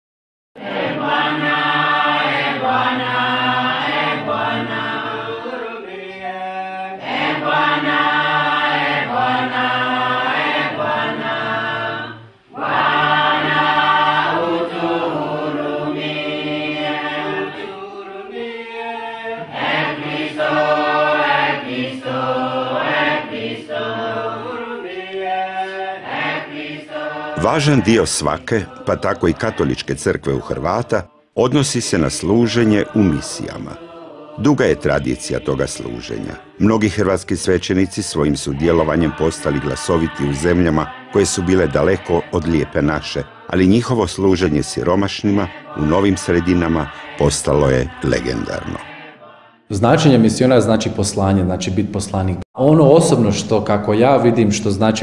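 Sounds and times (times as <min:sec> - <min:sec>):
group of voices singing: 0:00.6 - 0:55.0.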